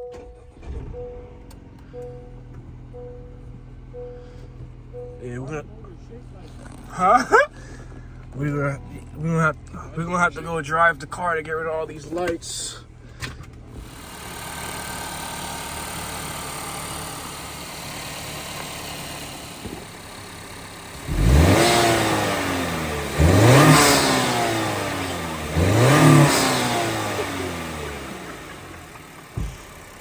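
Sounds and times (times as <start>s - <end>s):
car engine revving: 0.0s - 20.0s, 20.8s - 30.0s.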